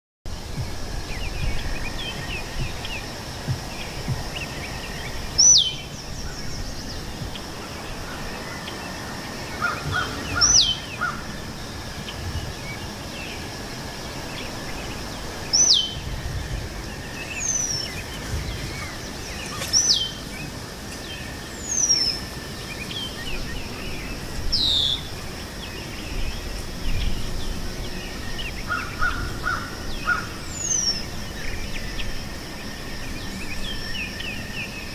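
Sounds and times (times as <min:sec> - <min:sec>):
birds chirping: 0:00.3 - 0:34.9
steady background hiss: 0:00.3 - 0:34.9.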